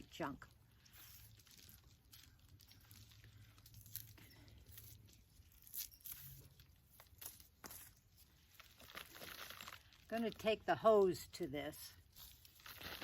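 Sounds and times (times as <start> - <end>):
roots and soil tearing and crackling: 0.0 - 13.0.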